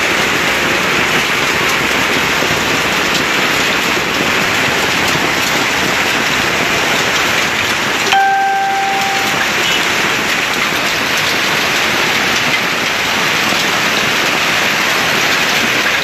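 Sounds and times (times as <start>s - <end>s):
hail and heavy rain pelting: 0.0s - 8.6s, 9.5s - 16.0s.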